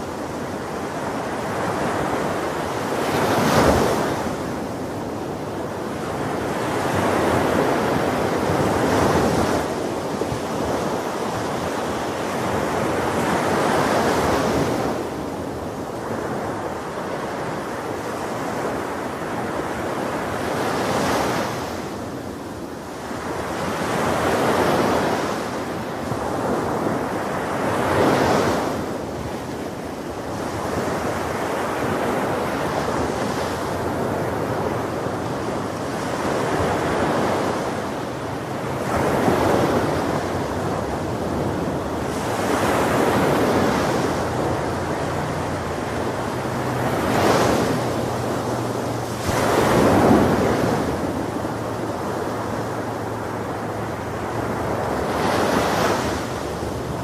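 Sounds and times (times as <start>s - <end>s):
waves breaking on beach: 0.0s - 57.0s
wind: 0.0s - 57.0s.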